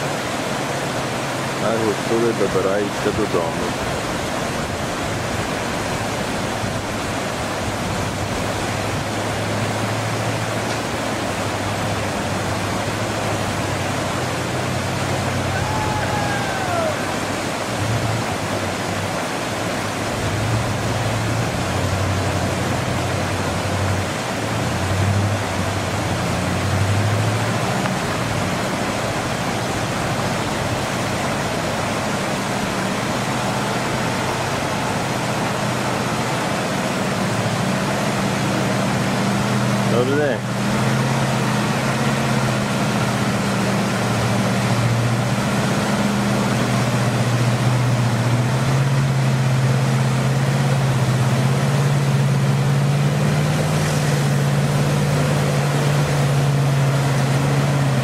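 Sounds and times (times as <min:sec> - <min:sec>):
river rushing: 0:00.0 - 0:58.0
truck engine drone: 0:00.0 - 0:58.0.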